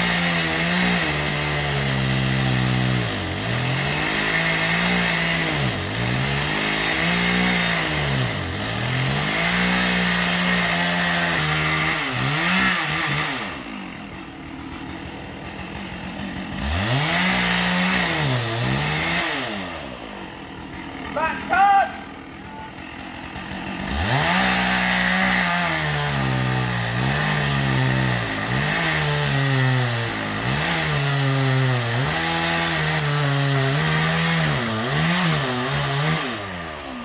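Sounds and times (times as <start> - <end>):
chainsaw revving: 0.0 - 37.0.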